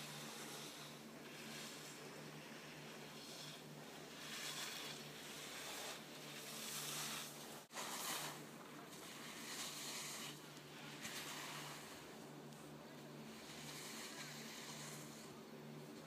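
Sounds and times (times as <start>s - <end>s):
skis sliding over snow: 0.0s - 16.0s.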